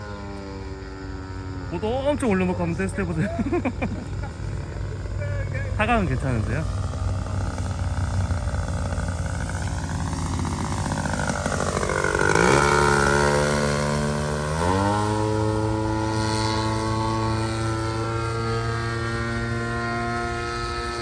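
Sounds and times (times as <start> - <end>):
model plane engine and propeller: 0.0 - 21.0.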